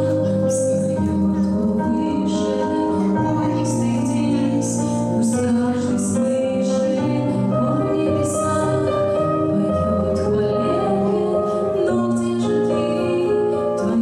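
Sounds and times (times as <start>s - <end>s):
instrumental accompaniment: 0.0s - 14.0s
woman singing into microphone: 0.0s - 14.0s.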